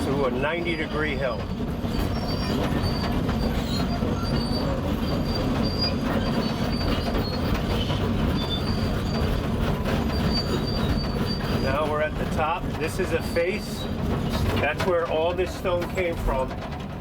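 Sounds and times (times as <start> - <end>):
diesel engine under load: 0.0 - 17.0
steel tracks clanking: 0.0 - 17.0
high track squeaks: 0.5 - 16.4.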